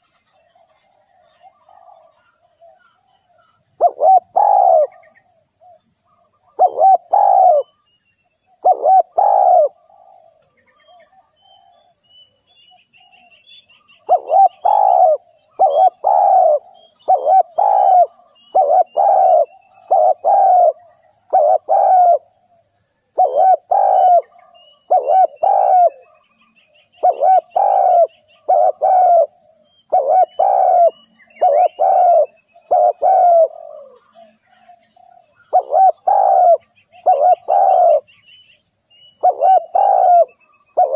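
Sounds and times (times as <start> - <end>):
dove cooing: 0.0 - 5.8, 6.4 - 7.8, 8.6 - 11.9, 14.0 - 26.3, 27.0 - 38.1, 39.2 - 40.9
faint small birds chirping: 0.0 - 40.9.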